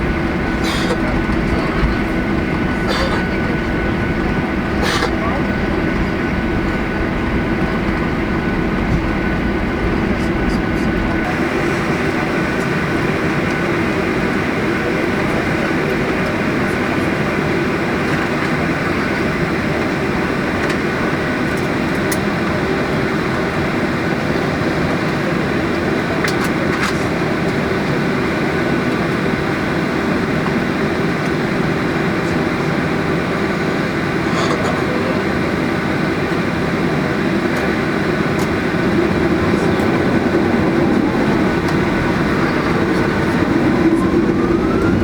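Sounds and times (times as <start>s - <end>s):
aircraft cabin engine rumble: 0.0s - 45.0s.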